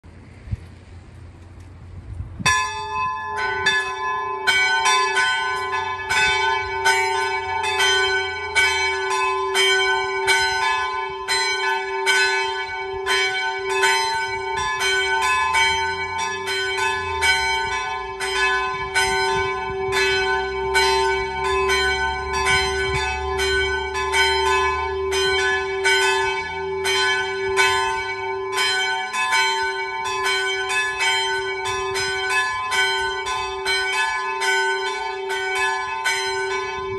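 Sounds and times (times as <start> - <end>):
church bells ringing: 2.4 - 36.9.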